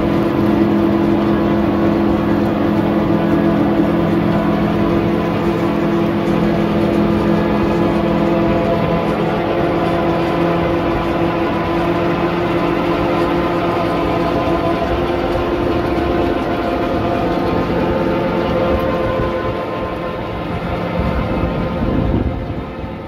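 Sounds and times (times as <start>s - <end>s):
soil being churned: 0.0s - 21.4s
tractor engine drone: 0.0s - 23.0s.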